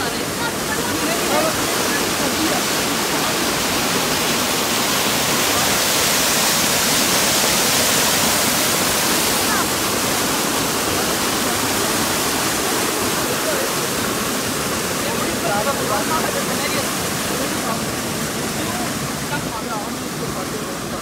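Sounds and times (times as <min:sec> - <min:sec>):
water cascading down waterfall: 0:00.0 - 0:21.0.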